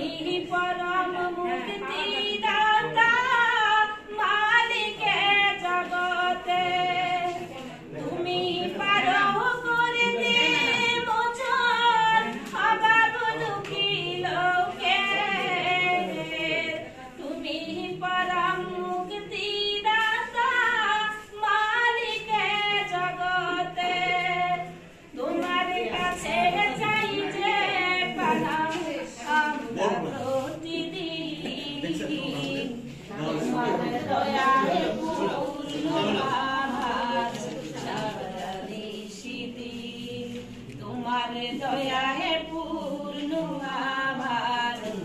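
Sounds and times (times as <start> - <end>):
women singing unaccompanied: 0.0 - 45.0.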